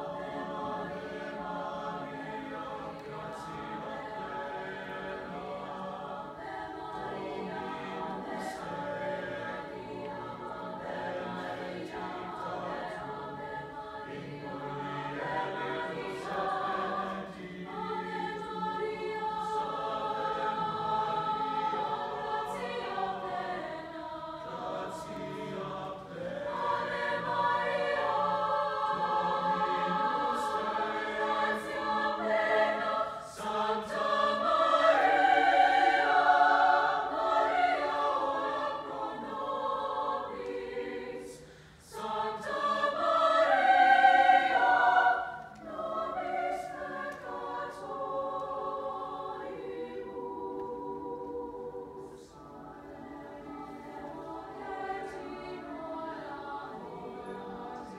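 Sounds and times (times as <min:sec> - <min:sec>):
mixed choir singing: 0:00.0 - 0:57.9.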